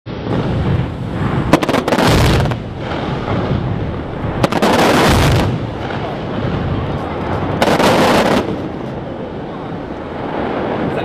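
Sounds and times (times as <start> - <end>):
fireworks cracking and bursting: 0.1 - 11.0.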